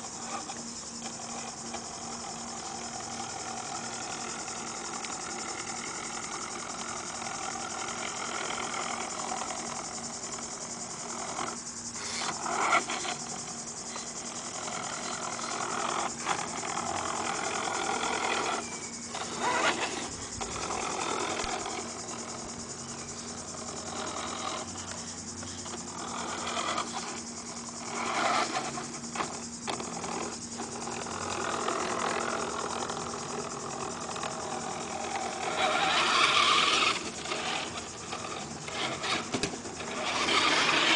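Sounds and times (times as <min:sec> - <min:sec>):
toy car electric motor whirring: 0:00.0 - 0:40.9.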